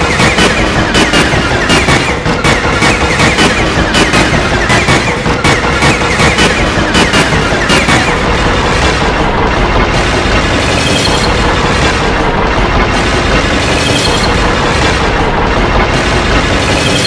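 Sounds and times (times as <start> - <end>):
looped crashing impacts: 0.0 - 17.0.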